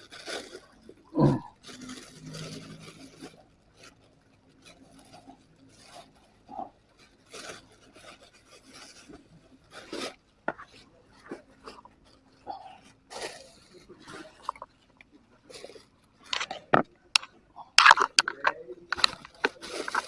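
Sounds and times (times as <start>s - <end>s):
rubbing and rasping scrapes: 1.6s - 14.8s, 15.5s - 20.0s.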